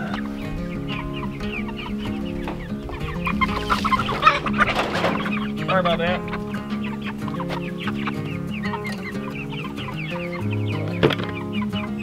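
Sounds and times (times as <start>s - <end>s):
background music: 0.0s - 12.0s
chickens clucking: 0.0s - 12.0s.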